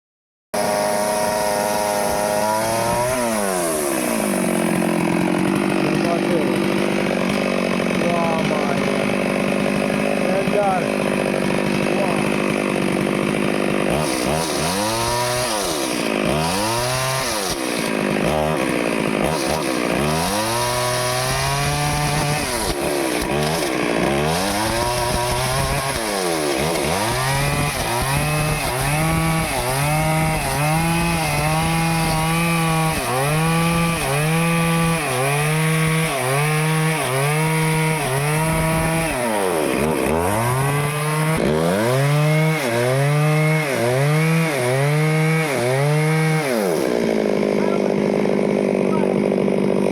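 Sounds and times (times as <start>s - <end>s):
chainsaw cutting wood: 0.6s - 49.9s.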